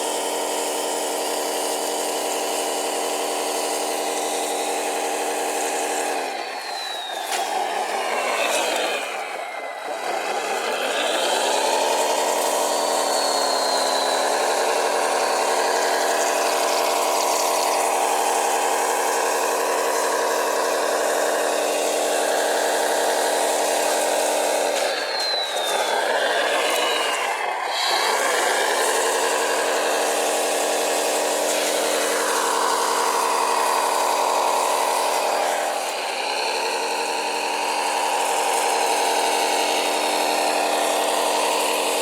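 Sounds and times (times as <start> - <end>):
model motor whining: 0.0 - 42.0.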